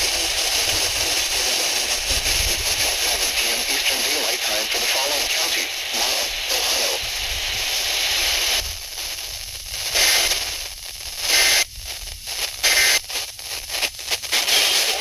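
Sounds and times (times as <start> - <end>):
radio static hiss and crackle: 0.0 - 15.0.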